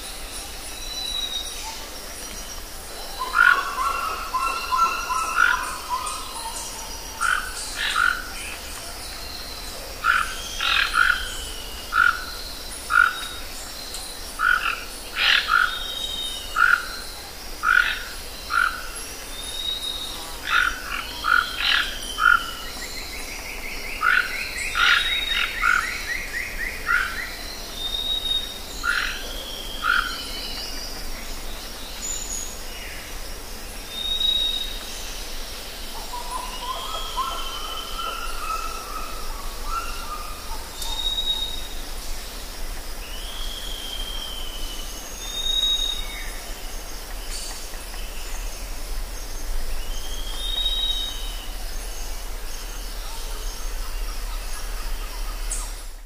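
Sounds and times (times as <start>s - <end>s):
faint outdoor background: 0.0s - 56.0s.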